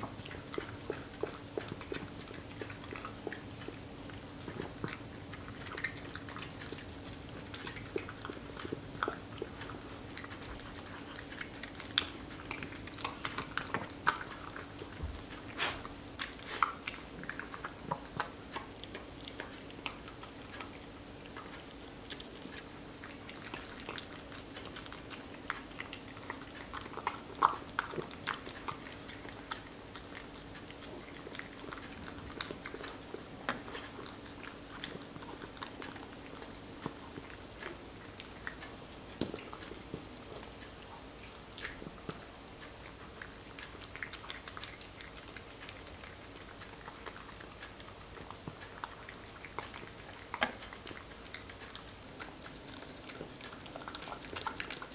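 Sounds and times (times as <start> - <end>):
dog chewing and licking: 0.0 - 54.9
faint steady hum: 0.0 - 54.9.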